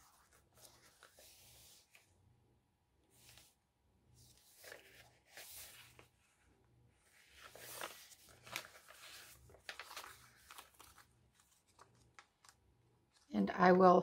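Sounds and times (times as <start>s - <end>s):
paper pages rustling: 0.0s - 2.1s, 4.2s - 13.9s.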